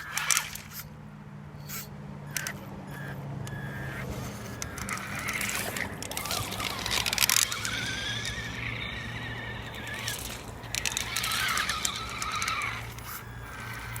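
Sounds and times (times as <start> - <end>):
toy truck electric motor whining: 0.0 - 0.9, 1.6 - 14.0
crackling bursts: 1.7 - 14.0.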